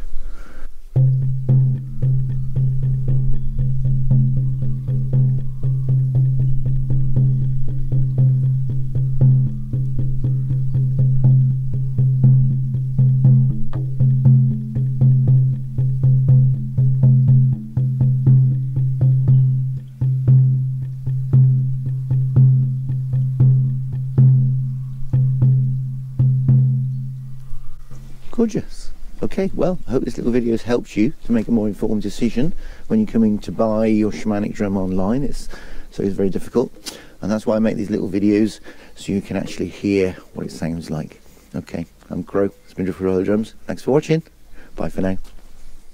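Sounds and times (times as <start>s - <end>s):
frame drum steady beat: 0.9s - 27.2s, 29.0s - 40.6s.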